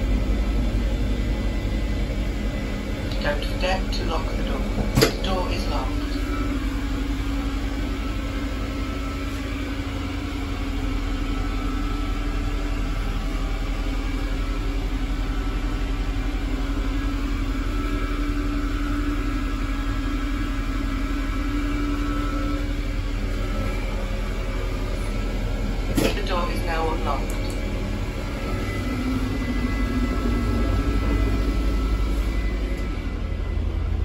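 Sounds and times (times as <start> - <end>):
idling diesel train engine: 0.0 - 34.0
onboard ventilation: 0.0 - 34.0.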